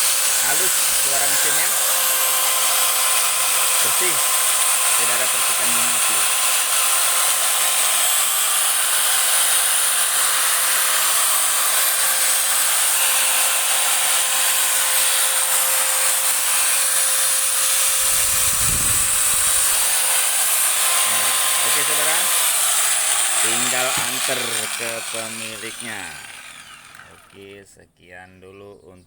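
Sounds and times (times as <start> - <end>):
angle grinder whining: 0.0 - 27.6.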